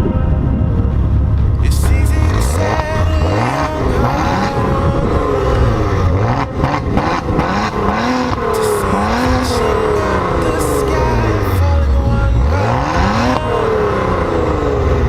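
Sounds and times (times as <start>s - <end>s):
engine revving: 0.6s - 15.0s.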